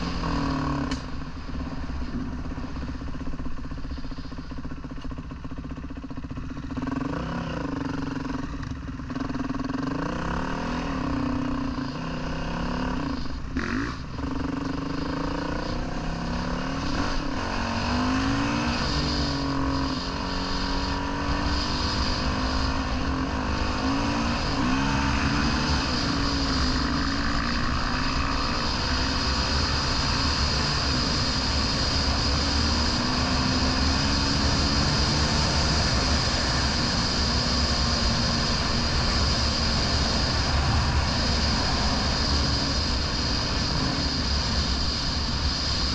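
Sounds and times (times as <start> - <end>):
steady rushing noise: 0.0 - 45.9
dirt bike engine revving: 6.2 - 45.9.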